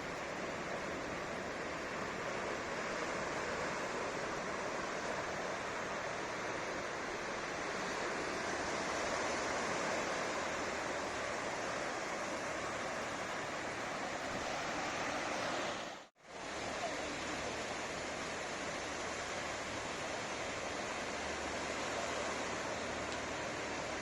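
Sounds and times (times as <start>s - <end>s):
surf waves breaking: 0.0s - 24.0s.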